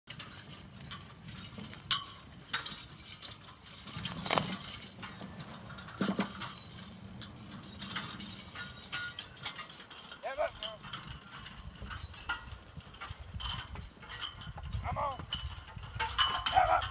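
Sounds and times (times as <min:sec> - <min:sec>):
harness and chains clinking: 0:00.1 - 0:16.9.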